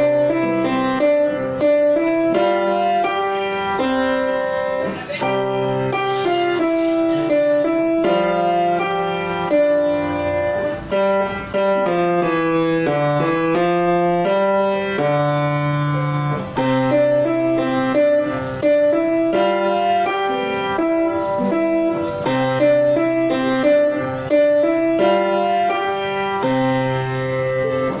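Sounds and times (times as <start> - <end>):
grand piano playing: 0.0 - 28.0.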